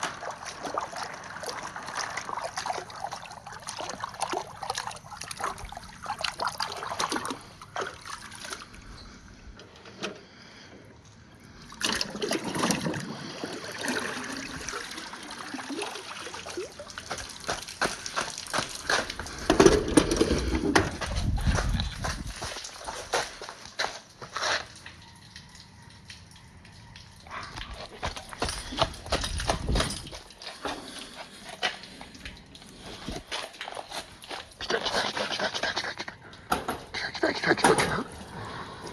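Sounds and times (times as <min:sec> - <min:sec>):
water running down plastic pipes: 0:00.0 - 0:09.0, 0:11.5 - 0:38.9.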